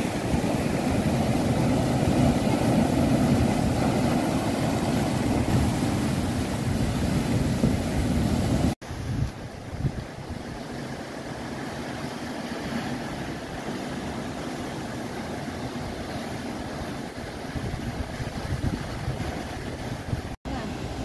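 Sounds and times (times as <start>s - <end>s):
surf washing over rocks: 0.0s - 21.0s.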